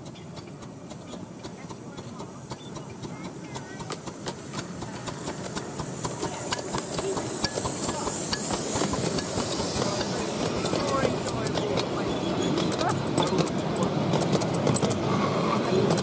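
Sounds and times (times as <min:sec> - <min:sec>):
steam hiss: 0:00.0 - 0:16.0
wheels clicking over track: 0:00.0 - 0:16.0.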